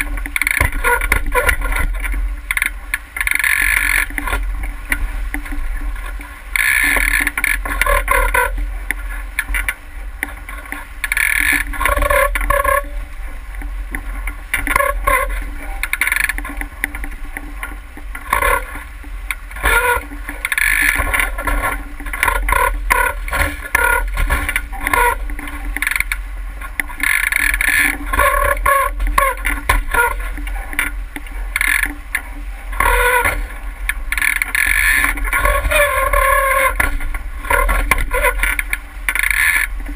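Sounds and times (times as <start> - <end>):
water splashing against boat hull: 0.0 - 39.9
wind rumble on microphone: 0.0 - 39.9.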